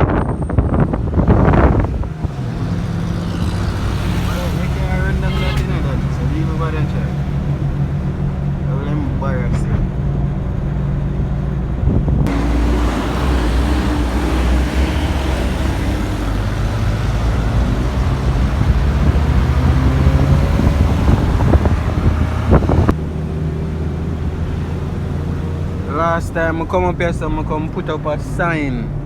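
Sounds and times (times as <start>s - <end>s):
car engine hum: 0.0s - 29.0s
road and wind noise: 0.0s - 29.0s.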